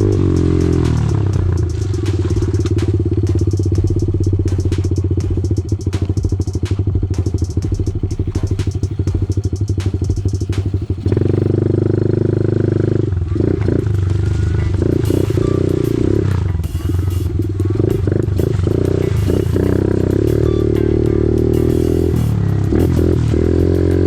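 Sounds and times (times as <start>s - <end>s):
engine clicks and knocks: 0.0s - 12.2s, 13.3s - 24.0s
small motorbike engine chugging: 0.0s - 24.0s.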